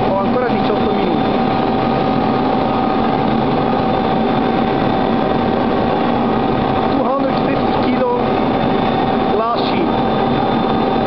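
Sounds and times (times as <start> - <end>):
glass washing machine running: 0.0 - 10.3.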